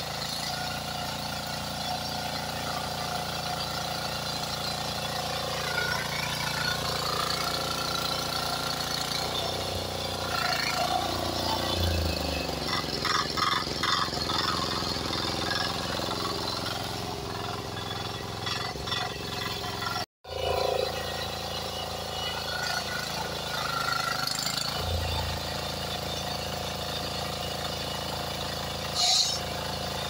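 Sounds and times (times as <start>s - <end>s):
diesel weeder engine running: 0.0s - 30.0s.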